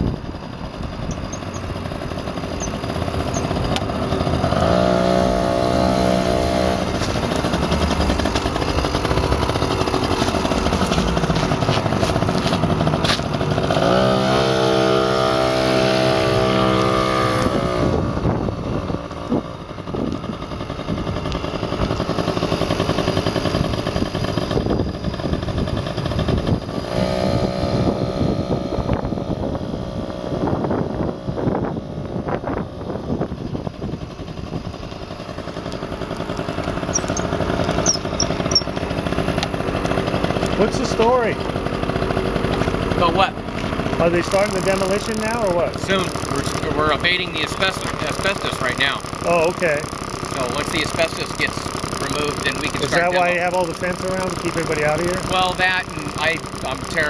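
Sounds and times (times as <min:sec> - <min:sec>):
continuous noisy rumble: 0:00.0 - 0:57.0
engine running: 0:00.0 - 0:57.0.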